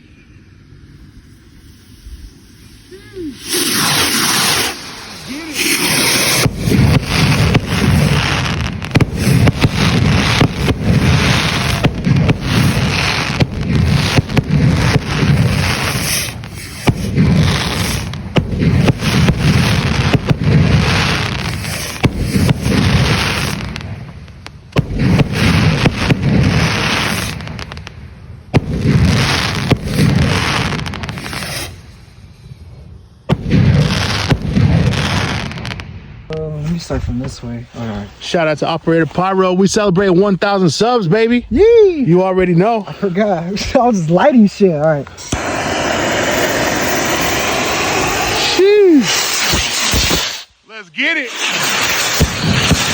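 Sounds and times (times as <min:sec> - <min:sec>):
fireworks hissing and crackling: 0:00.7 - 0:52.9
fireworks bangs: 0:01.0 - 0:52.9.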